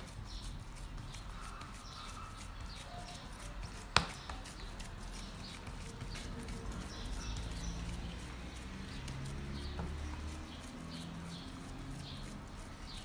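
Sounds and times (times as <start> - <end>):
hands patting and smearing meat: 0.0 - 13.0.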